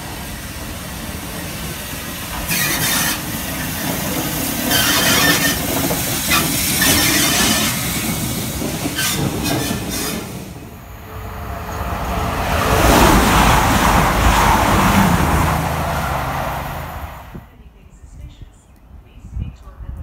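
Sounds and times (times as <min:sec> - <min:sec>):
steam locomotive moving: 0:00.0 - 0:17.5
train rushing past: 0:00.0 - 0:17.5.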